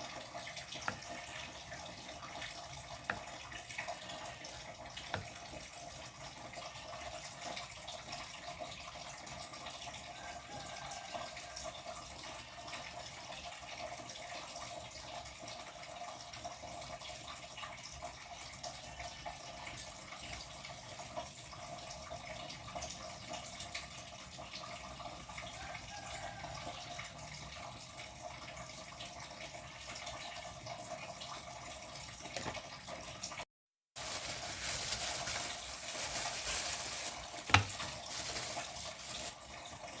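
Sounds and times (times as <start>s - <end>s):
tap water running into sink: 0.0s - 33.4s, 34.0s - 40.0s.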